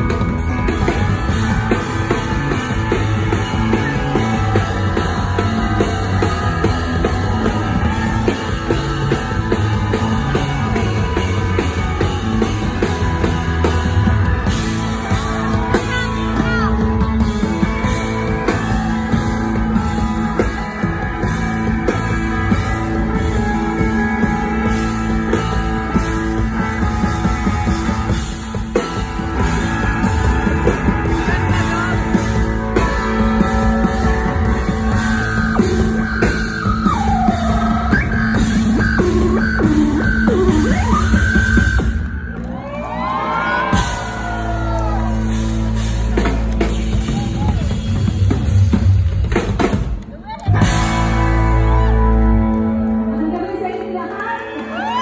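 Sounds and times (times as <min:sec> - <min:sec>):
drum kit: 0:00.0 - 0:53.4
electric guitars: 0:00.0 - 0:55.0.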